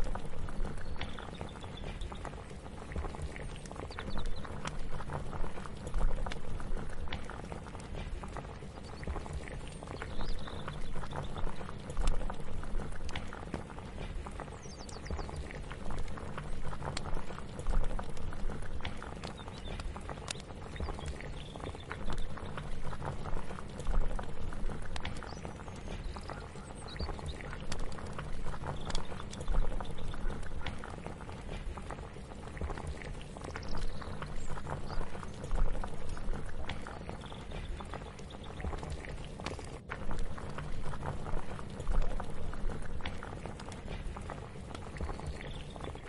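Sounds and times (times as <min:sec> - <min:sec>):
pot bubbling on stove: 0:00.0 - 0:46.0.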